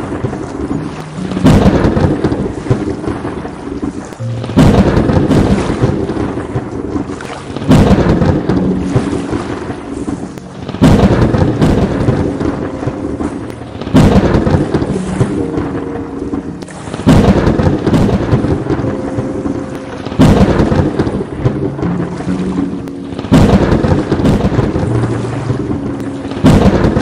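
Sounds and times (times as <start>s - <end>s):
steady rain: 0.0s - 27.0s
thunder claps and rumble: 0.0s - 27.0s.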